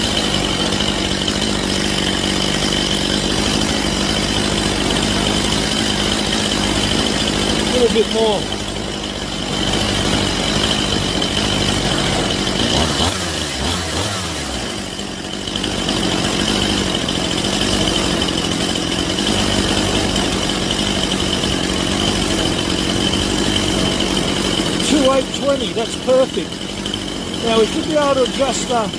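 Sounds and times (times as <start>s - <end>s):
chainsaw engine idling: 0.0s - 28.9s.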